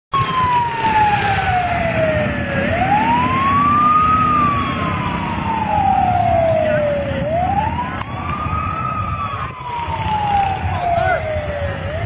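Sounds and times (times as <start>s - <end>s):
siren wailing: 0.1s - 12.0s.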